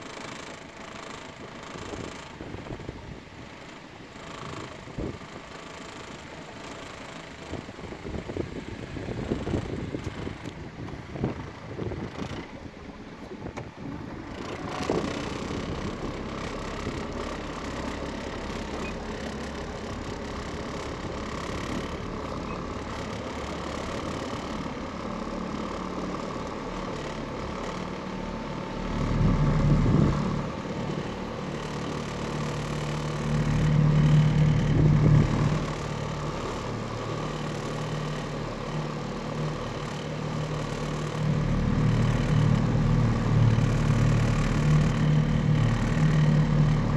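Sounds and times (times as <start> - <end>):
boat engine running: 0.0 - 46.9.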